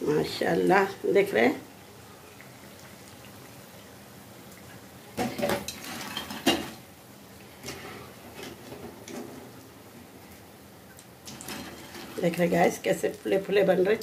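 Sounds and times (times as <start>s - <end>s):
frying oil sizzling: 0.0s - 14.0s.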